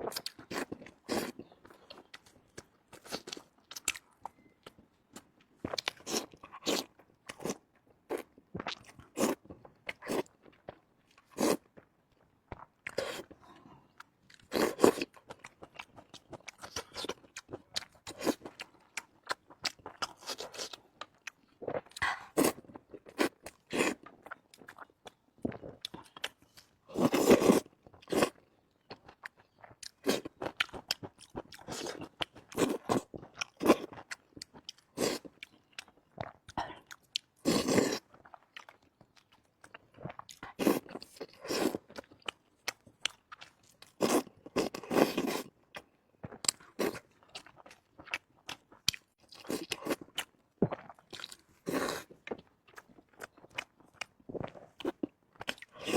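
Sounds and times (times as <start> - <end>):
person chewing crunchy food: 0.0 - 55.9.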